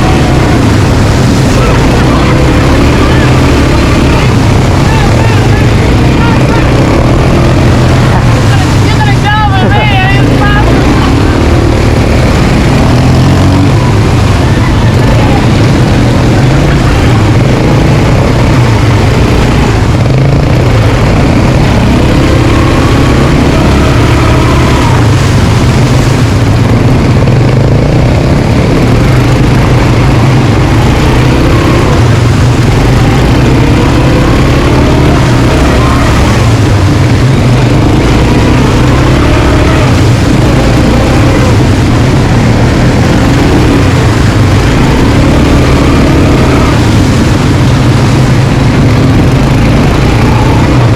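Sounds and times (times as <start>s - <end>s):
quad bike engine revving: 0.0s - 50.9s.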